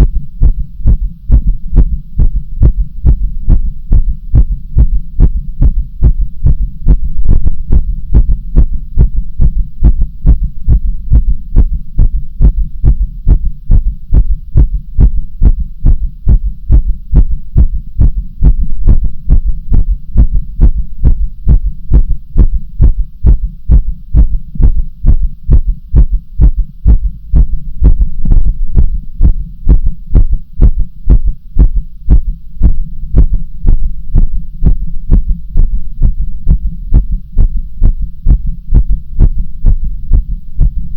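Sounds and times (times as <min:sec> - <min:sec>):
heartbeat thuds: 0:00.0 - 0:40.9.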